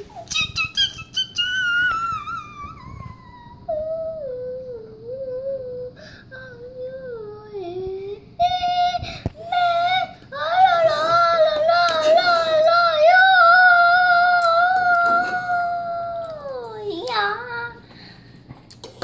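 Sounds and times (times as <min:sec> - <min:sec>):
boy singing without words: 0:00.0 - 0:17.9.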